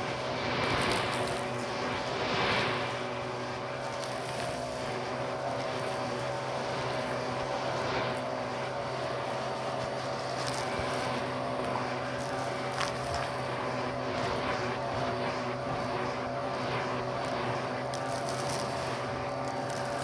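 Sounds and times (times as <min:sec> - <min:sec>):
vacuum cleaner motor drone: 0:00.0 - 0:20.0
grit ticking in hose: 0:03.8 - 0:20.0.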